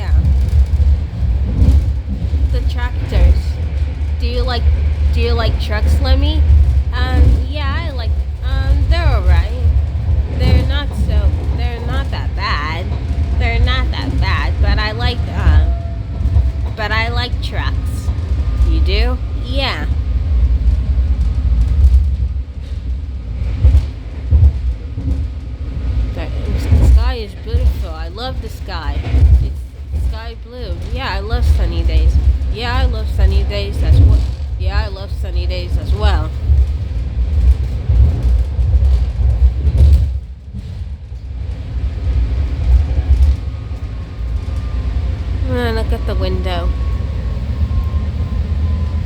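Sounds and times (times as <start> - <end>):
train car bumps: 0.0 - 43.6
train rumbling on track: 0.0 - 49.0.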